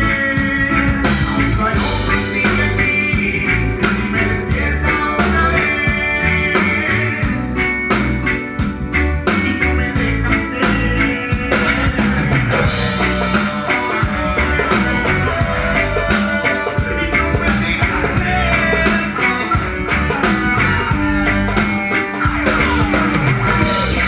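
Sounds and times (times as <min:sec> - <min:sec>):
bass line: 0:00.0 - 0:24.0
drum kit beat: 0:00.0 - 0:24.0
electric guitar playing: 0:00.0 - 0:24.0.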